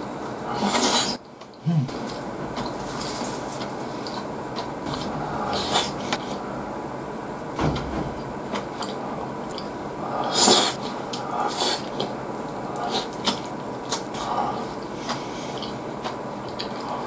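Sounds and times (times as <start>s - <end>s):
noisy bursts: 0.0s - 17.0s
person chewing: 0.6s - 6.5s, 8.5s - 17.0s.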